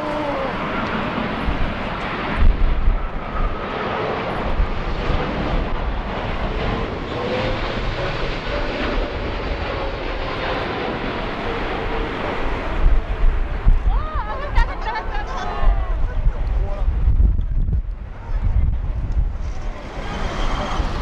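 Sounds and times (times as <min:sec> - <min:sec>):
jet engines running: 0:00.0 - 0:17.0, 0:17.8 - 0:21.0
wind buffeting microphone: 0:00.0 - 0:21.0.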